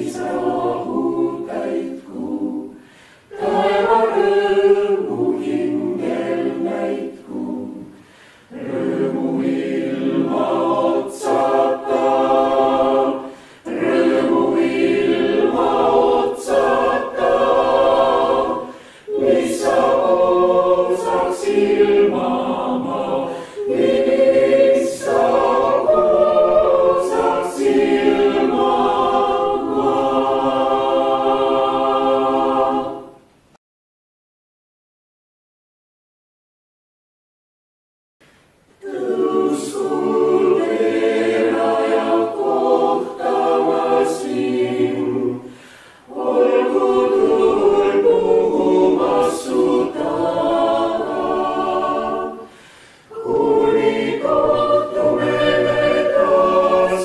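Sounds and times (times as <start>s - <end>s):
choir singing a cappella: 0.0s - 33.5s, 38.6s - 57.0s.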